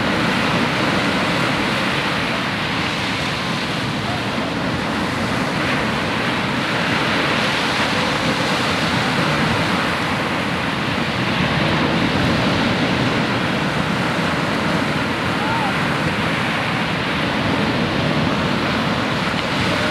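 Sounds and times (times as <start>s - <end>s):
small waves breaking on beach: 0.0s - 19.9s.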